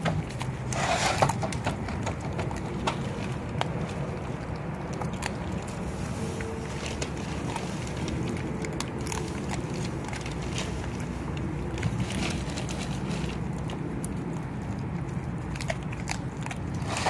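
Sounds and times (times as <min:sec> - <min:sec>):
dog chewing fish: 0:00.0 - 0:17.0
steady low rumble: 0:00.0 - 0:17.0.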